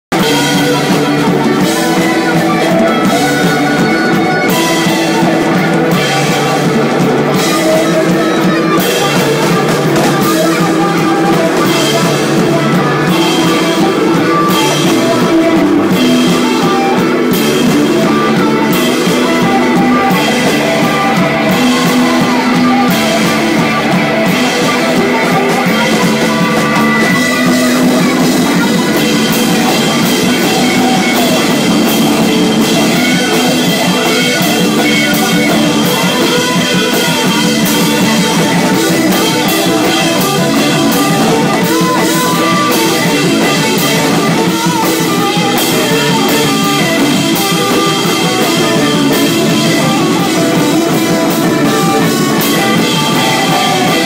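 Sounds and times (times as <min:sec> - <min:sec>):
live rock band playing: 0:00.1 - 0:54.0.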